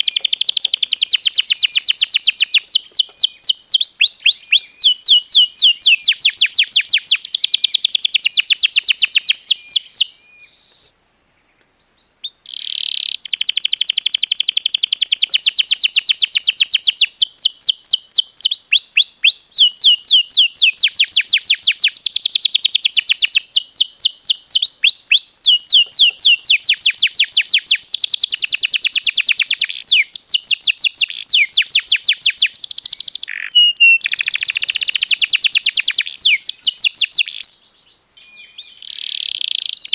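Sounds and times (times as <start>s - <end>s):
canary singing trills: 0.0s - 10.8s, 11.4s - 39.9s.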